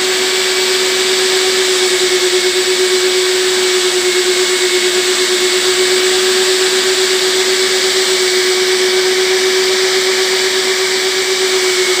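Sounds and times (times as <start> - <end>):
vacuum motor hum: 0.0 - 12.0.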